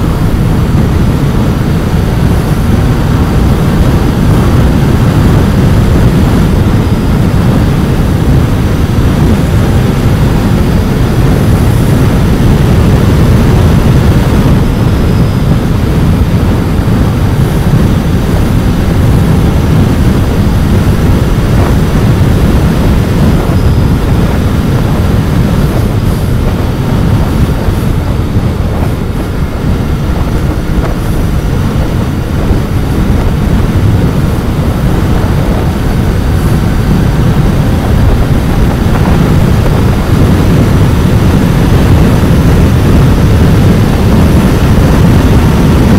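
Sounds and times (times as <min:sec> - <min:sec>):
motorcycle engine running: 0:00.0 - 0:45.9
road and wind rush: 0:00.0 - 0:45.9.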